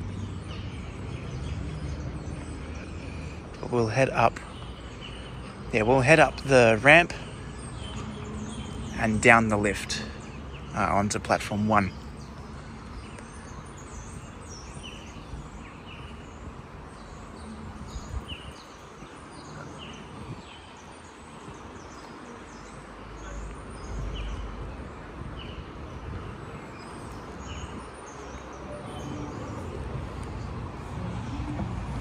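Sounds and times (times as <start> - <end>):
small birds chirping: 0.0 - 31.9
outdoor background noise: 0.0 - 32.0.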